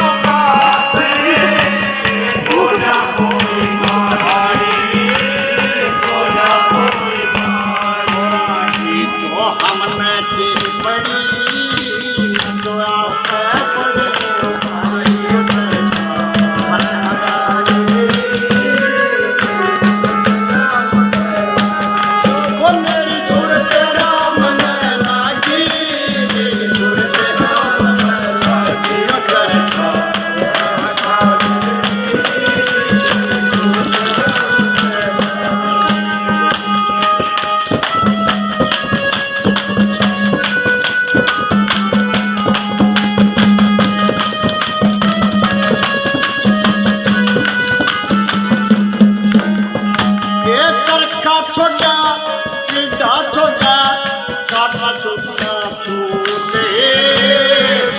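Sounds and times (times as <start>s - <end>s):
fast dense percussion: 0.0s - 57.9s.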